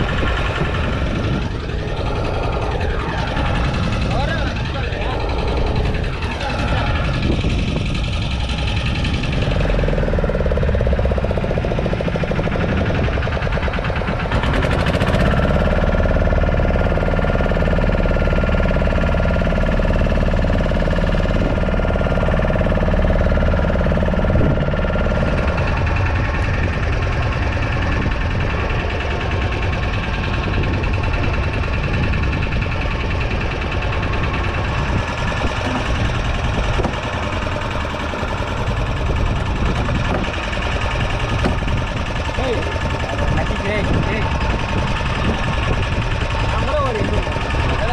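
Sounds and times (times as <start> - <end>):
boat engine knocking: 0.0 - 47.9.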